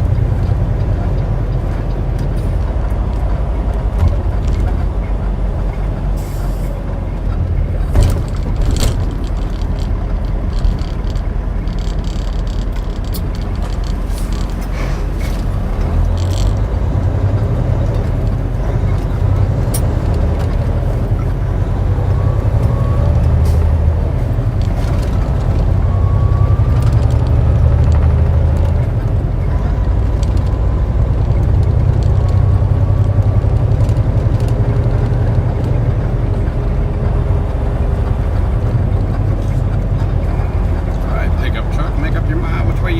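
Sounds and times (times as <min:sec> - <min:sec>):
truck diesel engine drone: 0:00.0 - 0:42.9.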